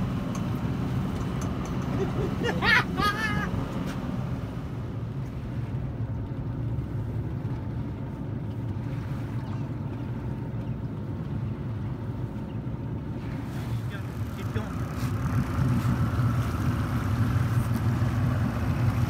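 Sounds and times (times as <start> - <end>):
boat engine humming: 0.0 - 19.0
water noise: 0.0 - 19.0.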